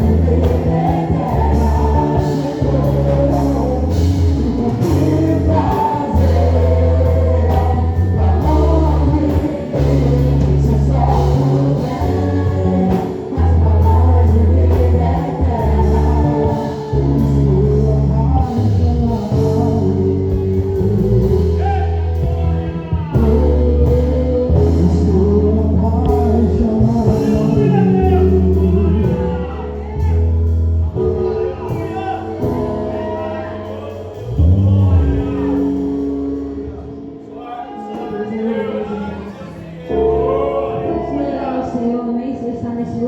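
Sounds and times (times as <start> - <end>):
person singing: 0.0 - 30.4, 36.6 - 43.0
heavy bass line: 0.0 - 37.1
worship band playing: 0.0 - 43.0.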